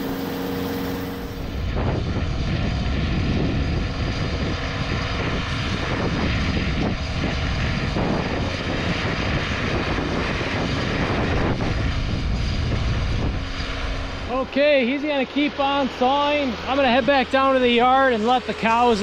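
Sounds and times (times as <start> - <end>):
engine running: 0.0 - 19.0
wind buffeting microphone: 0.0 - 19.0.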